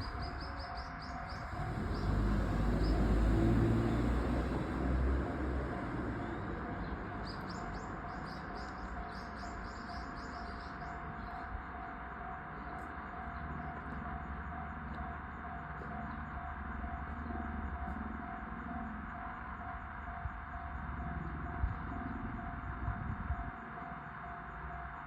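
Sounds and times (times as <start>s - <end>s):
level-crossing warning bell: 0.0s - 25.0s.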